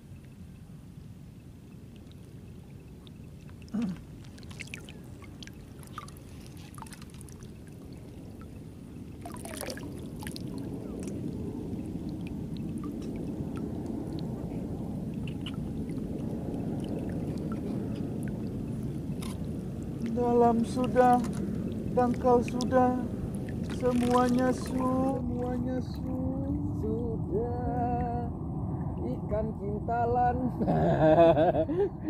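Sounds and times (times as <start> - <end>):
water lapping and sloshing: 0.0 - 29.0.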